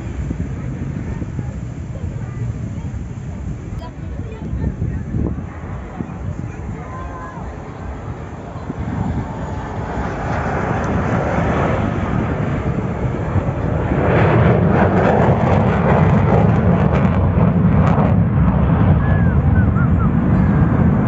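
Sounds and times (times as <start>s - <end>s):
jet aircraft roaring overhead: 0.0s - 21.0s.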